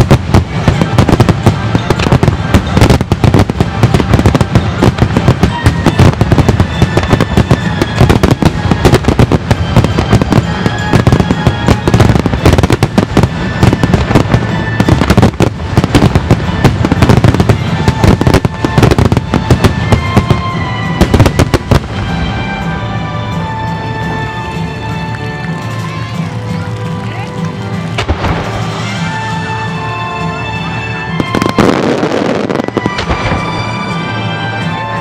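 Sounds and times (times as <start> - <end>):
firework barrage bangs and crackles: 0.0 - 35.0.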